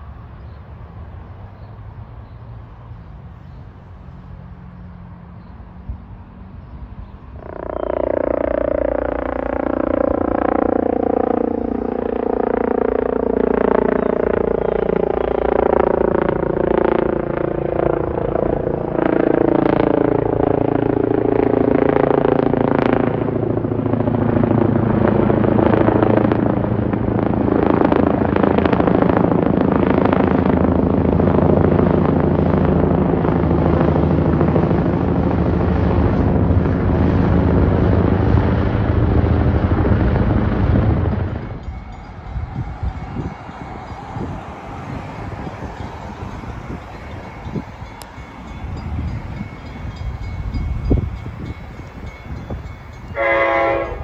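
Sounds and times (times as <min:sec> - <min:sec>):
helicopter flying overhead: 0:00.0 - 0:54.0.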